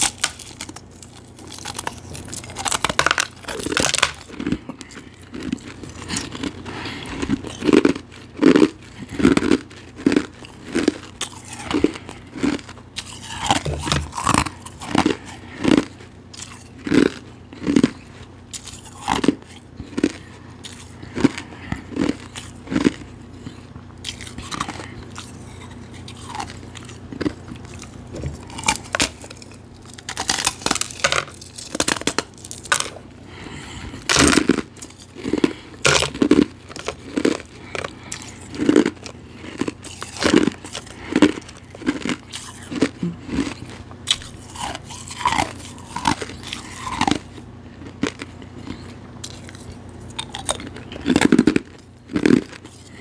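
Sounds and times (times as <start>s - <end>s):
ice crunching while chewed: 0.0s - 53.0s.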